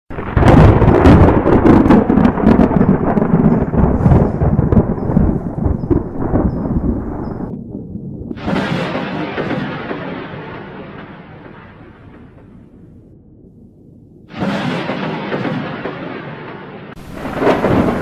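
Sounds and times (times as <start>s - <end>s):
thunder crack and rumble: 0.1s - 18.0s.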